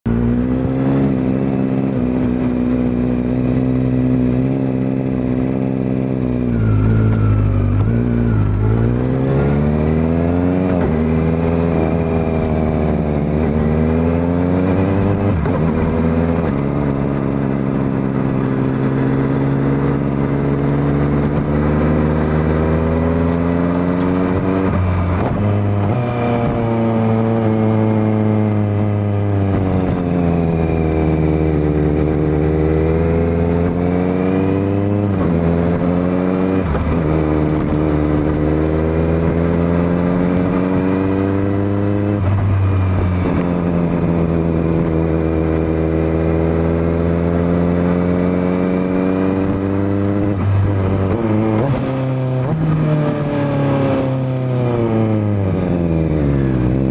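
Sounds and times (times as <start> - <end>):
motorcycle engine revving: 0.1 - 56.9.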